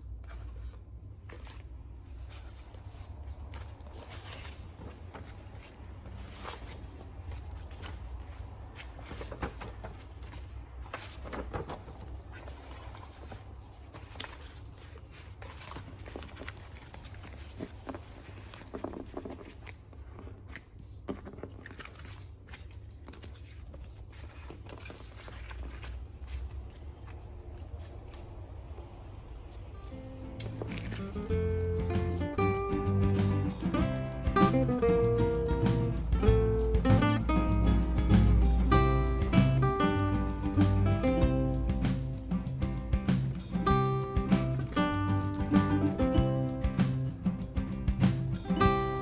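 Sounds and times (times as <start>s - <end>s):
paper and plastic rustling: 0.0s - 49.0s.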